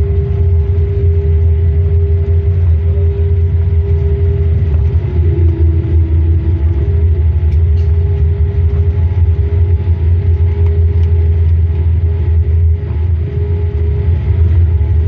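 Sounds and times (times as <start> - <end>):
aircraft cabin rumble: 0.0 - 15.0
constant engine whine: 0.0 - 15.0.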